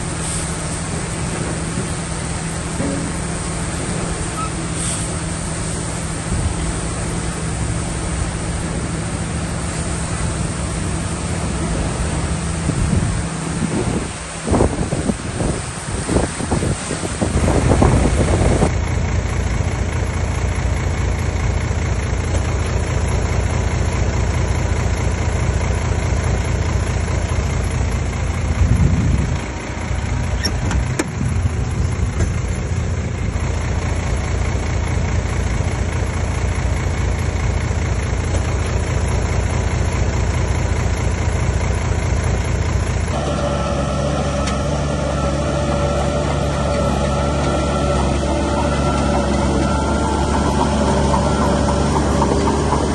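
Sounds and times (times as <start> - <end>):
engine pitched hum: 0.0 - 52.9
heavy machinery diesel engine: 0.0 - 52.9.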